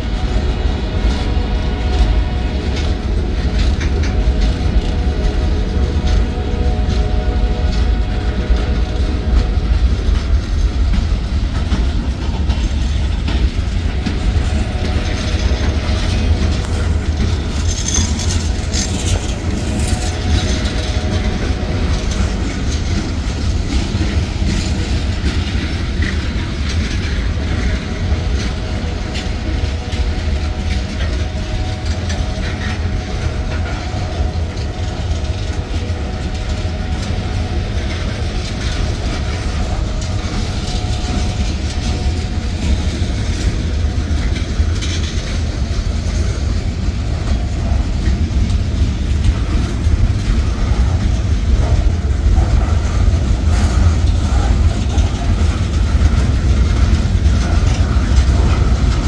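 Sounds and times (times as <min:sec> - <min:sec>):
wheels clattering over rail: 0:00.0 - 0:59.0.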